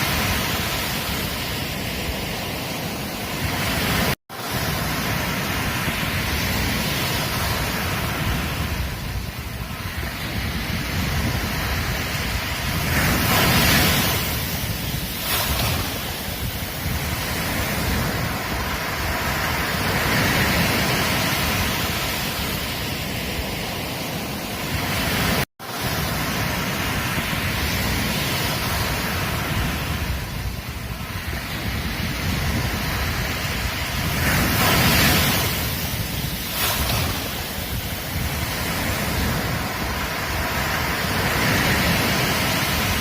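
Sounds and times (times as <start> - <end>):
ocean waves washing onto beach: 0.0 - 43.0.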